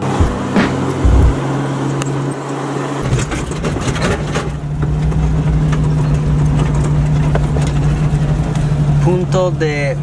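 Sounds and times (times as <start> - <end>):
car engine running in cabin: 0.0 - 10.0.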